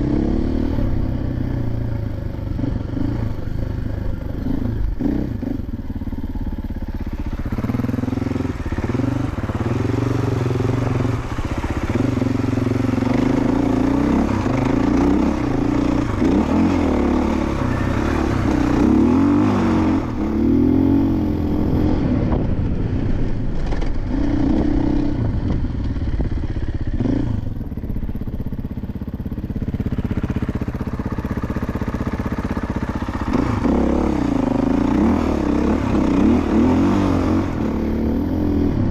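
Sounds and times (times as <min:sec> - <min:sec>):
dirt bike engines revving: 0:00.0 - 0:22.6, 0:30.0 - 0:38.9.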